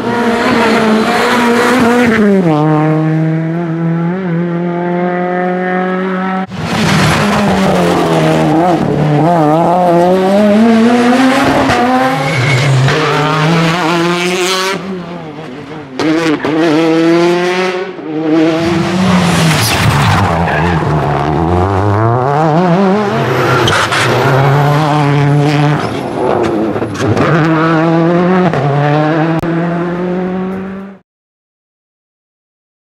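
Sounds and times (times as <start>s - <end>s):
rally car engines at full throttle: 0.0s - 31.0s.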